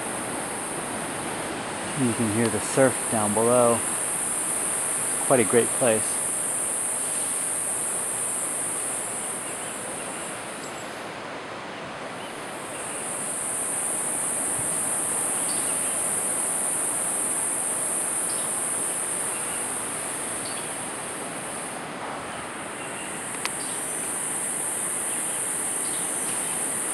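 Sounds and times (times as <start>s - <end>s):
insects droning: 0.0s - 26.9s
surf on shore: 0.0s - 26.9s.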